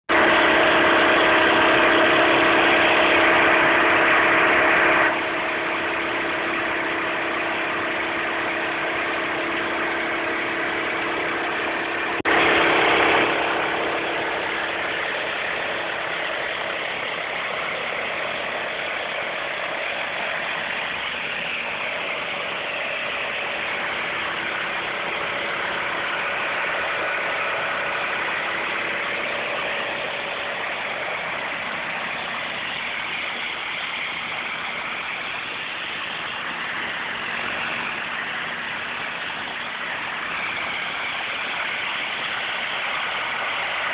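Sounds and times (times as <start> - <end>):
pressure washer engine drone: 0.0 - 43.9
high-pressure water jet hissing: 0.1 - 43.9.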